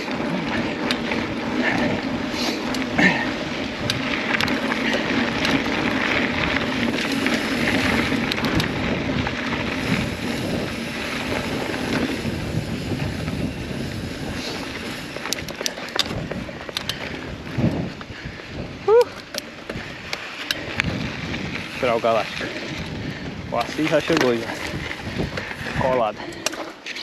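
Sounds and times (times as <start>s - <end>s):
wind on microphone: 0.0s - 26.4s
bike tyre and frame rattle: 0.0s - 27.0s.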